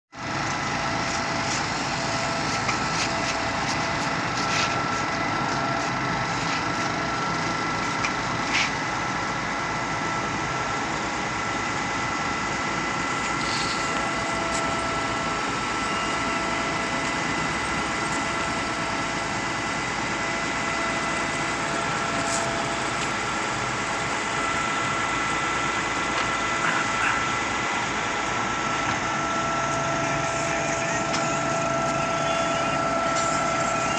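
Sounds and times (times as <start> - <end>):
concrete pump whining: 0.2 - 33.9.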